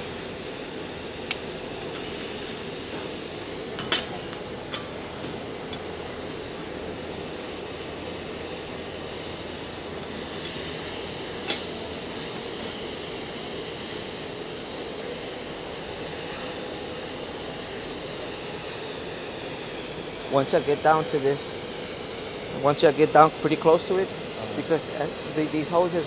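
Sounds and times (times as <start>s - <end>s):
cutting torch hissing: 0.0s - 26.0s.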